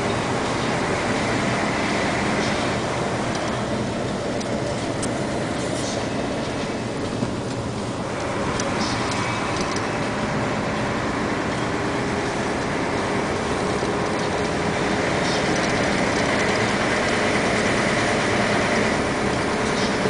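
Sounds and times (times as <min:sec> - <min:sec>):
rattling inside vehicle cab: 0:00.0 - 0:20.0
vehicle engine and road noise: 0:00.0 - 0:20.0.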